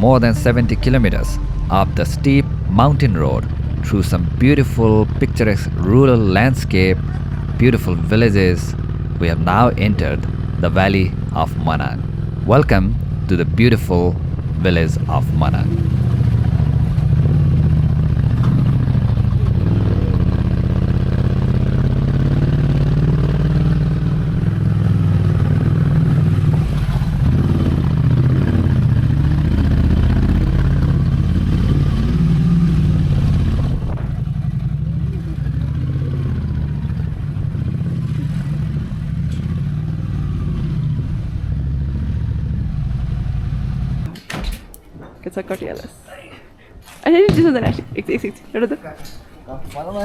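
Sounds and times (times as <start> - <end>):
motorcycle engine running: 0.0 - 44.1.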